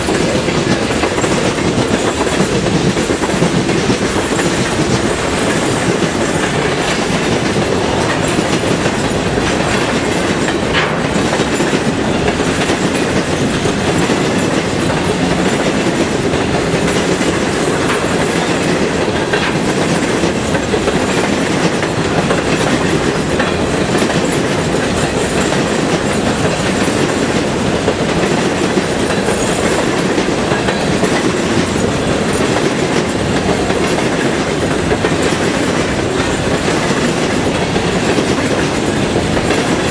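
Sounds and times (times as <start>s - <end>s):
freight train cars rolling: 0.0s - 39.9s
wheels clicking over rail joints: 0.0s - 39.9s.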